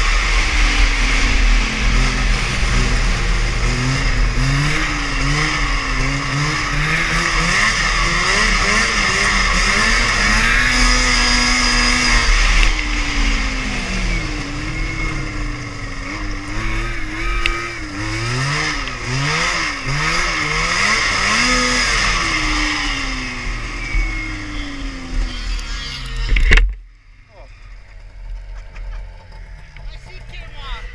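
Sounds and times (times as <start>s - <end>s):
snowmobile two-stroke engine: 0.0s - 30.9s.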